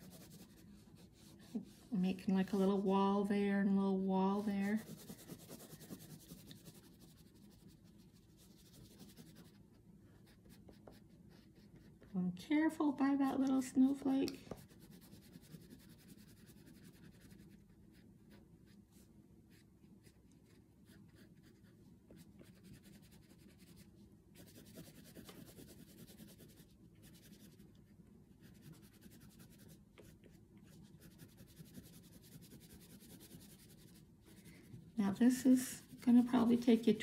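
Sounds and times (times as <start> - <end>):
oil pastel scratching on paper: 0.0 - 12.2, 13.2 - 27.8, 28.4 - 37.0.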